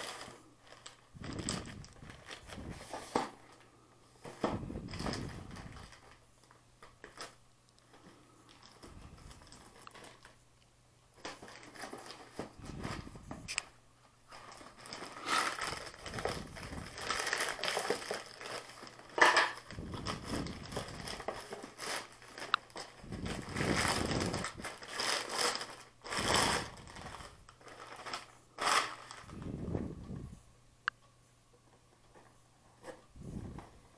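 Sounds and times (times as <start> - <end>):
plastic mailer crinkling: 0.0 - 10.4, 11.1 - 30.0.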